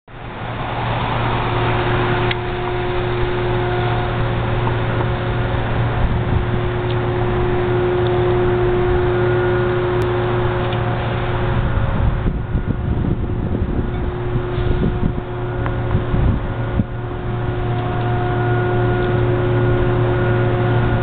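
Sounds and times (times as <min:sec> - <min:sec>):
outdoor noise: 0:00.0 - 0:21.0
engine drone: 0:00.1 - 0:21.0.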